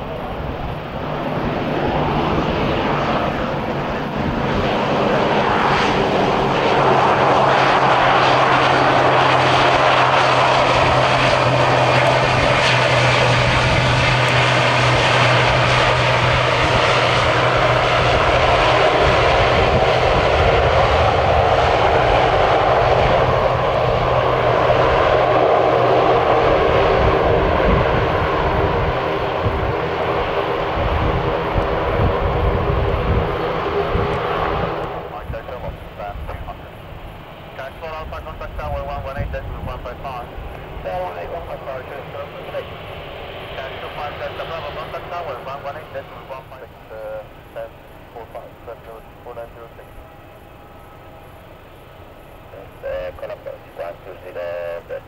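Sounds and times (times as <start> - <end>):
low propeller drone: 0.0 - 55.0
turboprop engines running: 0.0 - 55.0.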